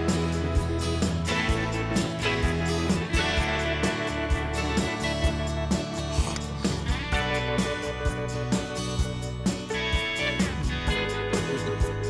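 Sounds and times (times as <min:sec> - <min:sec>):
background music with held notes: 0:00.0 - 0:12.0
steady thumping beat: 0:00.0 - 0:12.0.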